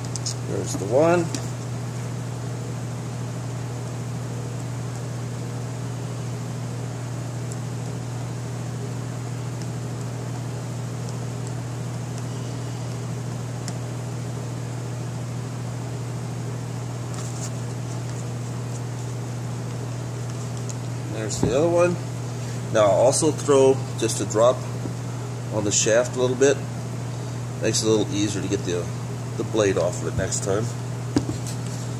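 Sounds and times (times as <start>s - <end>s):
low machine hum: 0.0s - 31.9s.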